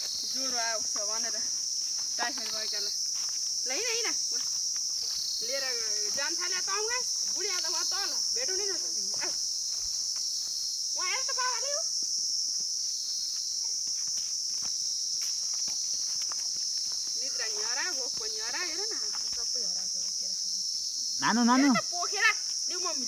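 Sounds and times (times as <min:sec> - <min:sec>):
footsteps on dirt path: 0:00.0 - 0:23.0
insect chorus: 0:00.0 - 0:23.0.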